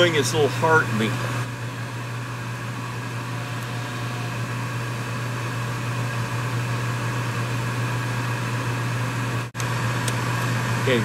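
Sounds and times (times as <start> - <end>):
furnace motor humming: 0.0 - 11.0.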